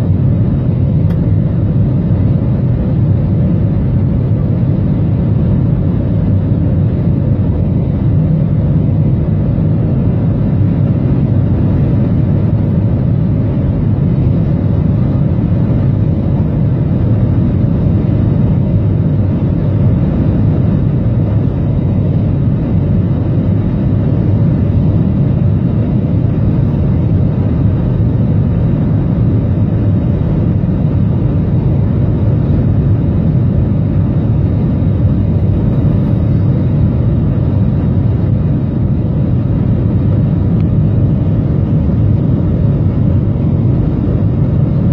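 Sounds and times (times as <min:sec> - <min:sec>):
aircraft engines rumbling: 0:00.0 - 0:44.9
rushing air in cabin: 0:00.0 - 0:44.9.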